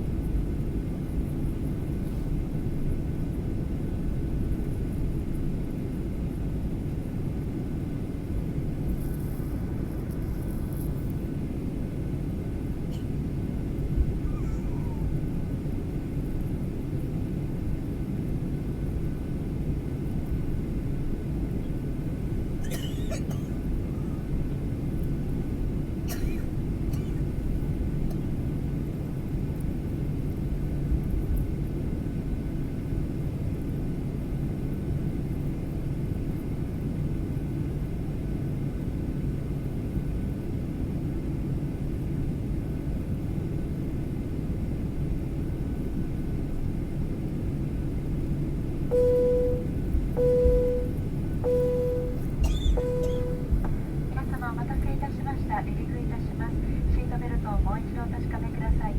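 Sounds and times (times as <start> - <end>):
airliner cabin low rumble: 0.0 - 58.9.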